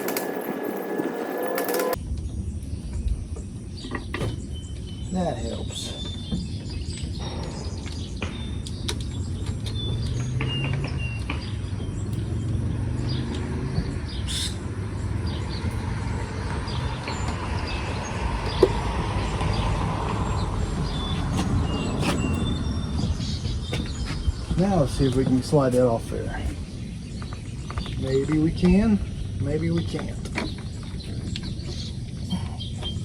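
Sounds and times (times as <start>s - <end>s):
birds chirping: 0.0s - 33.0s
vehicle engine rumble: 0.0s - 33.0s.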